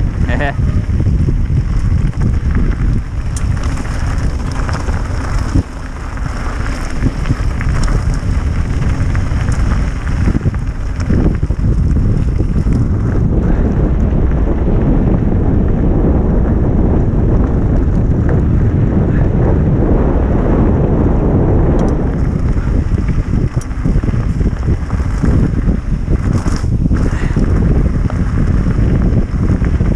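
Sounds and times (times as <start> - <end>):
bicycle tyres crackling on gravel: 0.0 - 29.9
wind rushing over microphone: 0.0 - 29.9.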